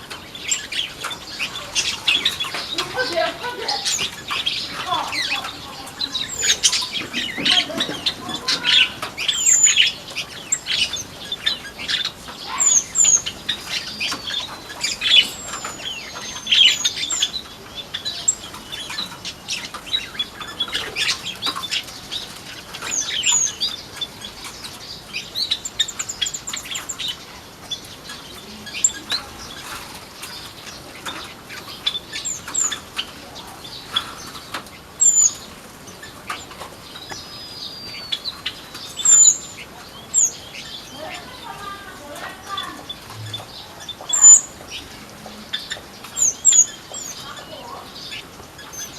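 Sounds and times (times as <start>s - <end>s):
birds chirping and calling: 0.0s - 48.9s.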